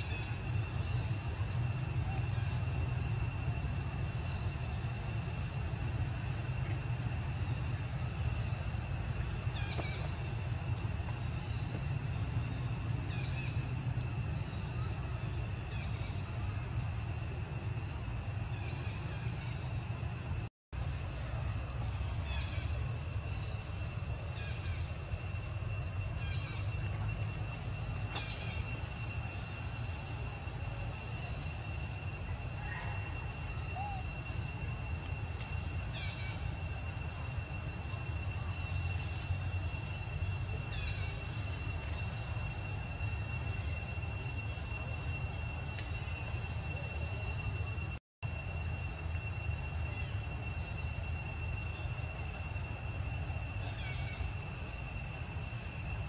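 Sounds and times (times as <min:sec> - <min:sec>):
high insect drone: 0:00.0 - 0:56.0
low steady rumble: 0:00.0 - 0:56.0.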